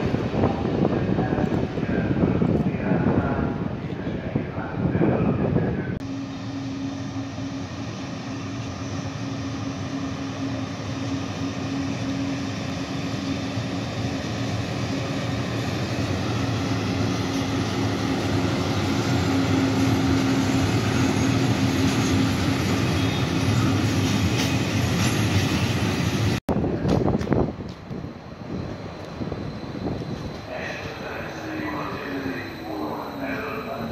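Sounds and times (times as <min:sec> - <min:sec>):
electric locomotive hum: 0:00.0 - 0:33.9
wheels rumbling on rail: 0:00.0 - 0:33.9.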